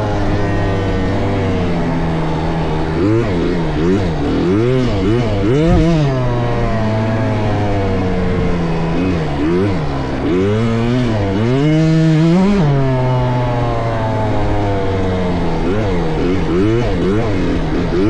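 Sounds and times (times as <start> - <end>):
motocross bike engines revving: 0.0 - 18.0
steady engine drone: 0.0 - 18.0.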